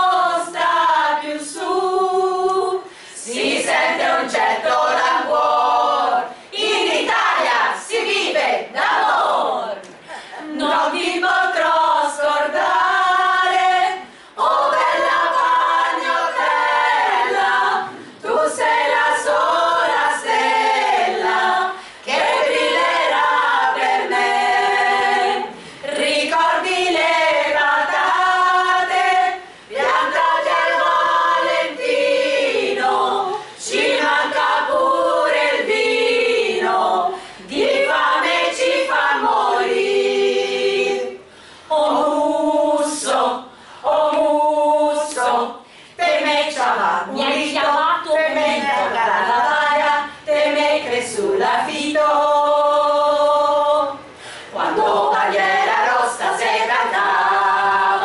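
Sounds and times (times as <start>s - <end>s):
women's choir singing a cappella: 0.0s - 58.0s.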